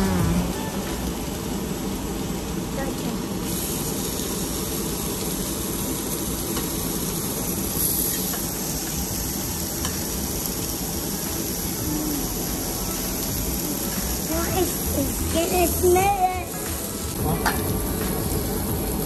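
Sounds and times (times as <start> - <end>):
meat sizzling on grill plate: 0.0 - 19.0.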